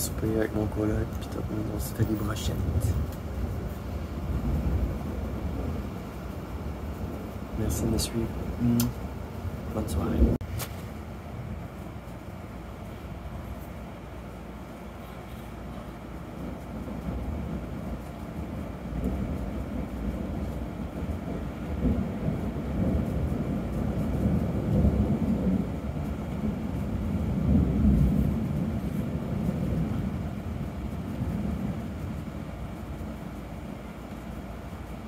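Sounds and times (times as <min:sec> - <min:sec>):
rolling thunder: 0:00.0 - 0:15.0, 0:15.6 - 0:35.0.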